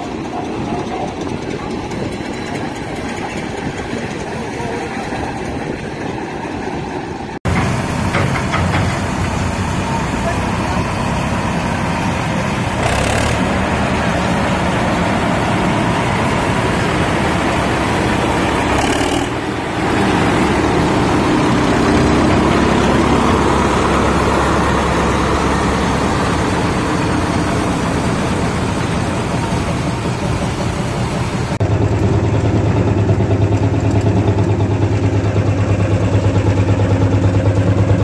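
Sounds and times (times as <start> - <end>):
tractor engines running: 0.0 - 38.0.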